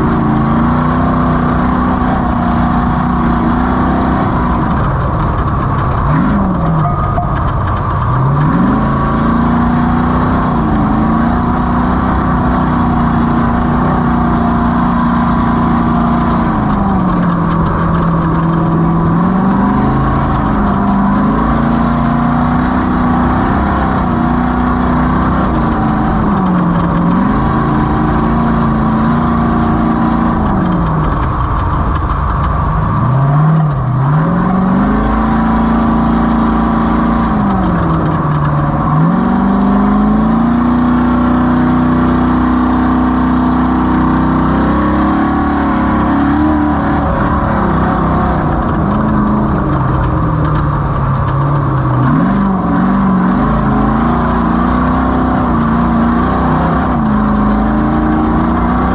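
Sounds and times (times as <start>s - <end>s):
race vehicle engine revving: 0.0s - 58.9s.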